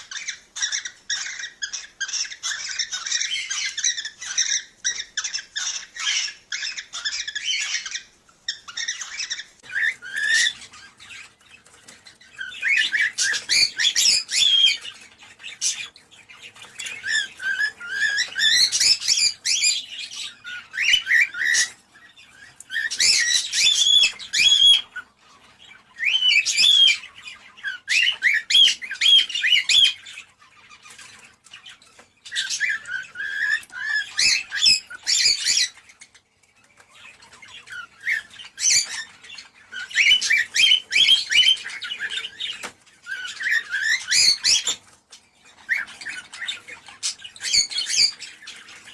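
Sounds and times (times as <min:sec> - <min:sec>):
cockatiels chirping and warbling: 0:00.0 - 0:48.9.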